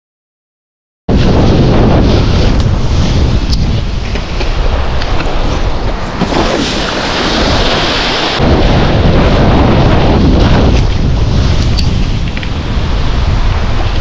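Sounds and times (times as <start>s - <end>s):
board skimming choppy water: 1.1s - 14.0s
wind buffeting microphone: 1.1s - 14.0s.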